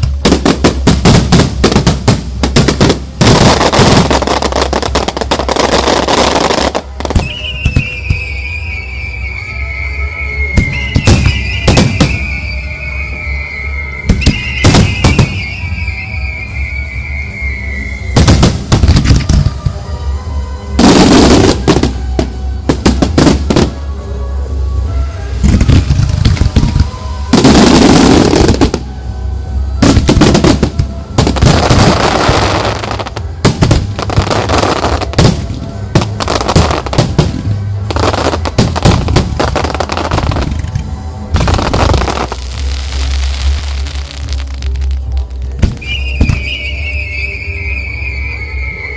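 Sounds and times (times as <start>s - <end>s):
fireworks launching and bursting: 0.0s - 24.0s, 24.6s - 48.9s
firework whistles: 0.0s - 48.9s
music playing: 0.0s - 48.9s.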